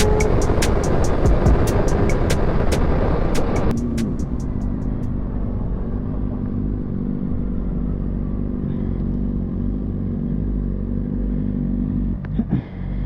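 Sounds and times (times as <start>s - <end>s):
wind rumble: 0.0s - 11.3s
motorcycle engine running: 0.0s - 13.0s.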